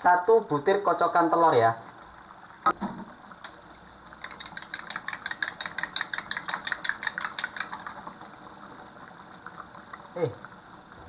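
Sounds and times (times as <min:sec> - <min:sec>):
thick sauce bubbling in a wok: 0:00.7 - 0:11.0.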